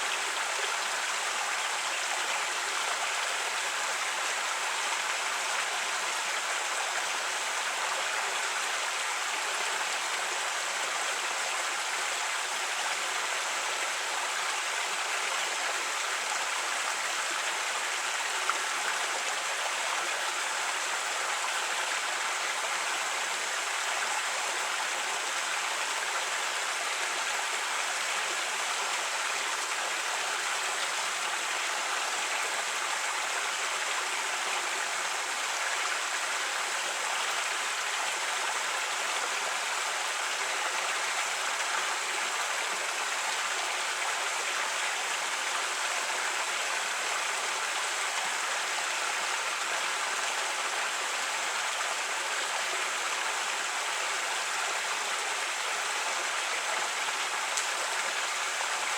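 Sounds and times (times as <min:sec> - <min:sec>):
creek water over rocks: 0:00.0 - 0:58.9.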